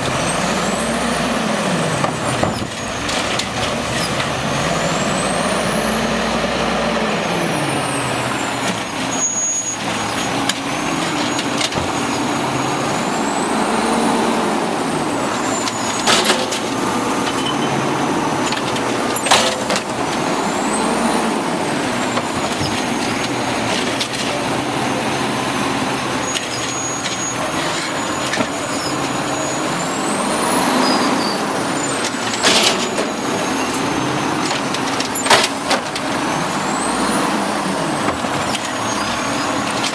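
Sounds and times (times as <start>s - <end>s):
garbage truck engine: 0.0s - 39.9s
hydraulic whine: 0.0s - 39.9s.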